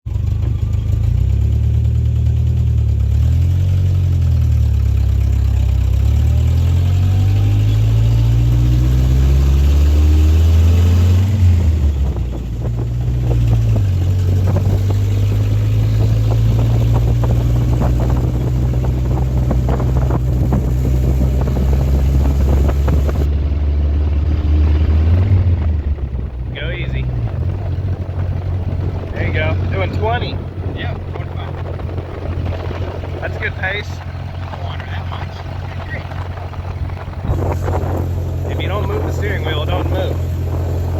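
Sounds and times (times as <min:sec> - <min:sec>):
jeep engine driving: 0:00.0 - 0:40.9.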